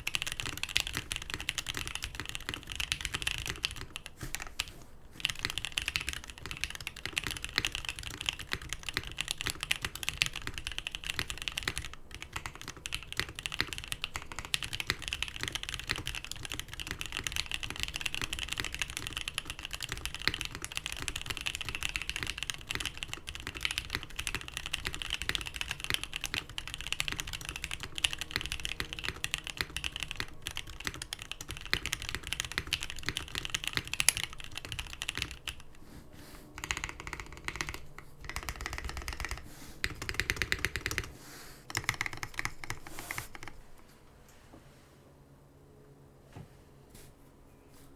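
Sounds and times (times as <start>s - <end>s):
mechanical keyboard typing: 0.0s - 35.8s, 36.6s - 43.6s.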